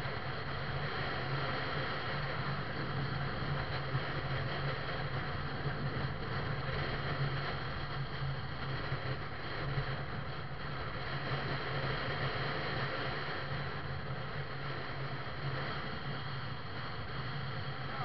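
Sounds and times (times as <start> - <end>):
low engine hum: 0.0 - 18.0
road and wind noise: 0.0 - 18.0.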